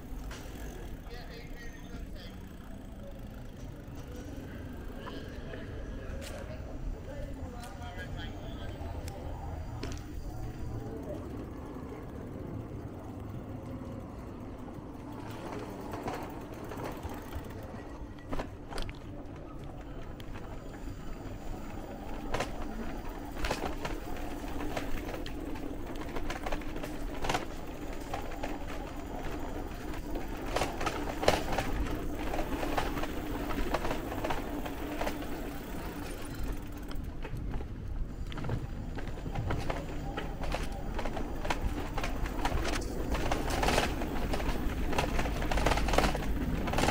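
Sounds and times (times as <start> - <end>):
bike rattling on cobblestones: 0.0 - 46.9
tyres rumbling on paving stones: 0.0 - 46.9.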